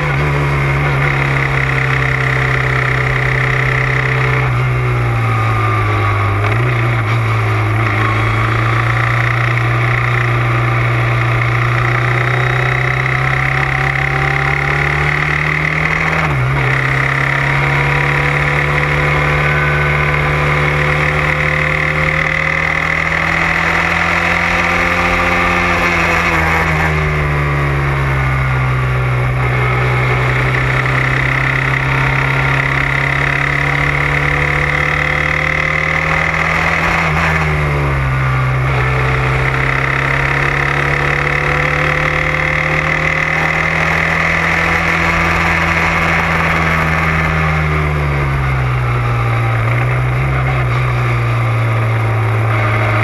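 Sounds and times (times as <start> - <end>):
race car engine: 0.0 - 53.0.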